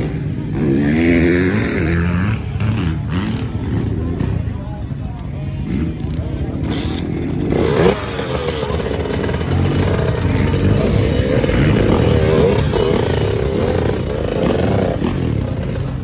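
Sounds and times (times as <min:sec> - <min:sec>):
dirt bike engine revving: 0:00.0 - 0:04.6, 0:05.5 - 0:16.0.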